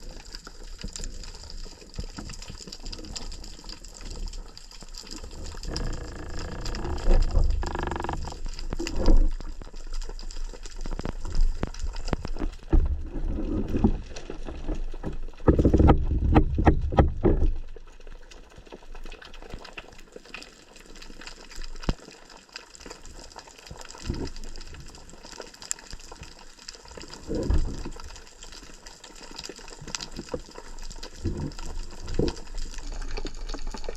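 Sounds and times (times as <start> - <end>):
water sloshing and bubbling: 0.0 - 33.9.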